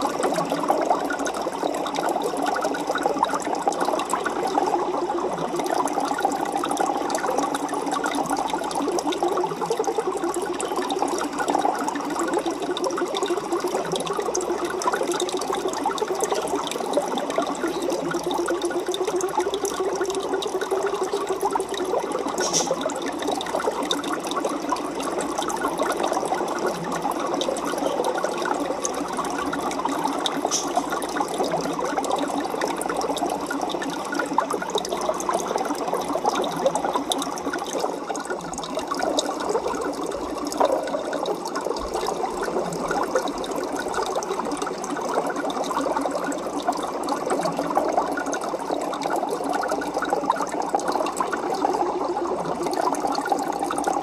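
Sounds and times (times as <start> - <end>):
aquarium water bubbling: 0.0 - 54.0.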